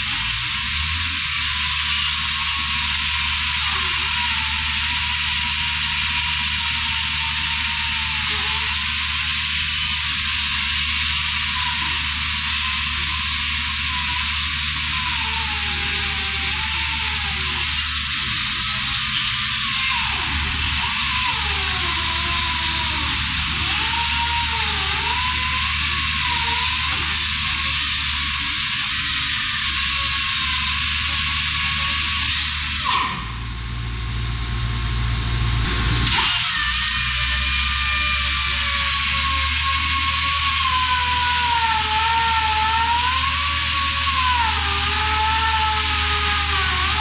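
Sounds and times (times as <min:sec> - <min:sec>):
pneumatic chainsaw cutting concrete: 0:00.0 - 0:33.5, 0:35.6 - 0:47.0.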